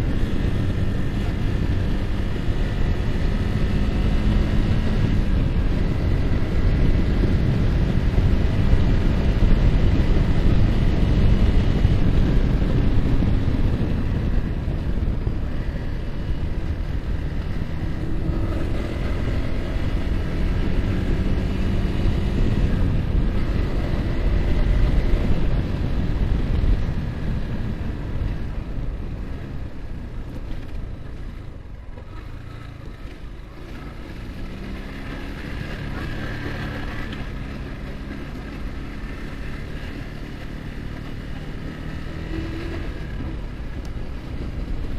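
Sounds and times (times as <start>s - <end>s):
motorcycle engine running: 0.0s - 44.9s
wind rush on microphone: 0.0s - 44.9s.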